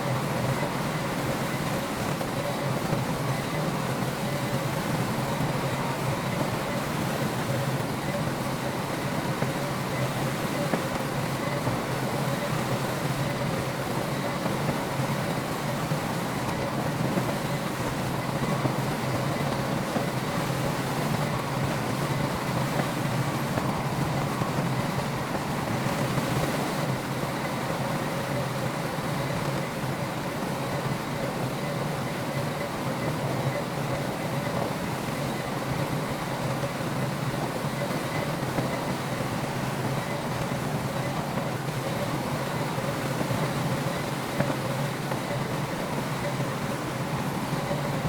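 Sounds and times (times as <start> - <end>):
faint steady whine: 0.0 - 48.0.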